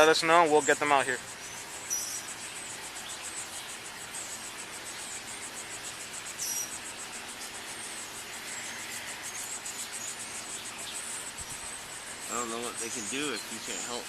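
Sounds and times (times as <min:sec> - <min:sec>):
background hiss: 0:00.0 - 0:14.0
insects chirping: 0:00.0 - 0:14.0.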